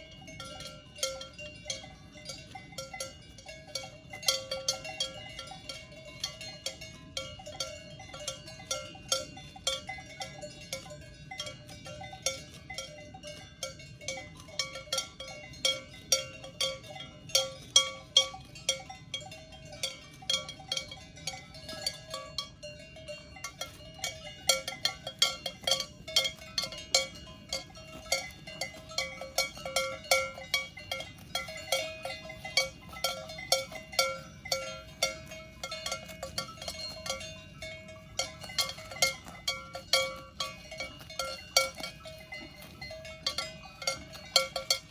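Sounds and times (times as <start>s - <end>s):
cowbells clanking: 0.0s - 44.9s.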